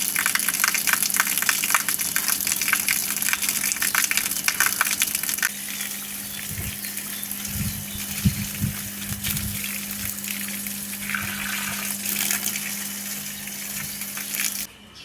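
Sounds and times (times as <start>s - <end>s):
water gushing and splashing: 0.0s - 14.7s.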